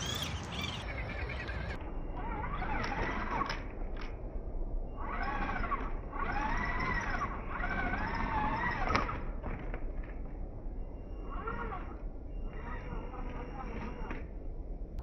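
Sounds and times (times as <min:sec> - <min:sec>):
rc motor and gears whining: 0:00.0 - 0:14.6.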